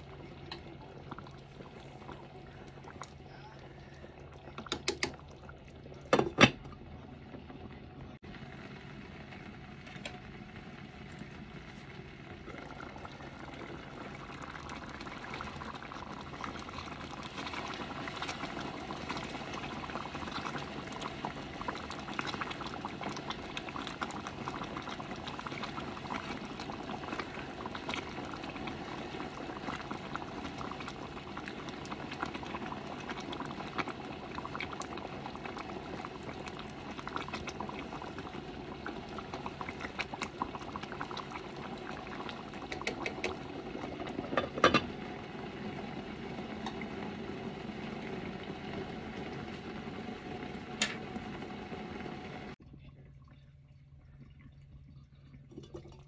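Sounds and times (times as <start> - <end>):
pot of broth boiling: 0.0 - 56.0.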